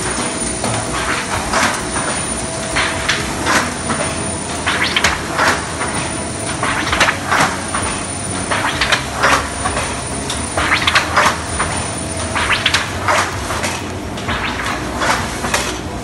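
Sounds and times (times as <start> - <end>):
machine hum: 0.0 - 16.0
metallic clatter and hiss: 0.0 - 16.0.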